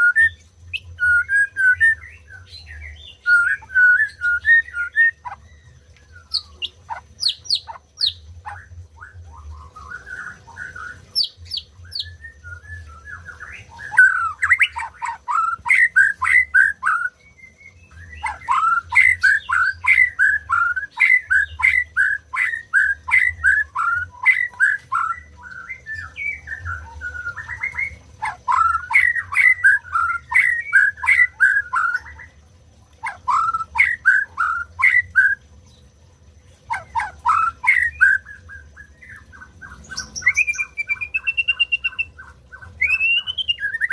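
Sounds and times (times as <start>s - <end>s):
bird singing: 0.0s - 32.4s, 33.0s - 43.9s.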